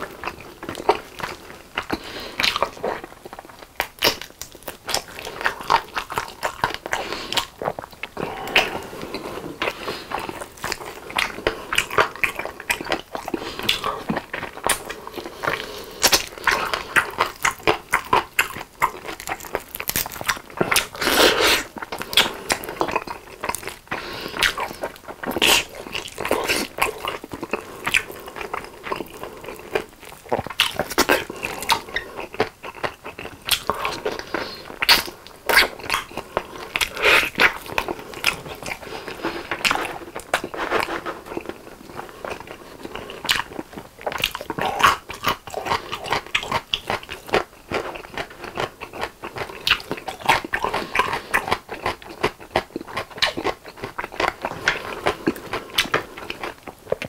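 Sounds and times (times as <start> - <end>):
chewing chicken off the bone: 0.0 - 57.0.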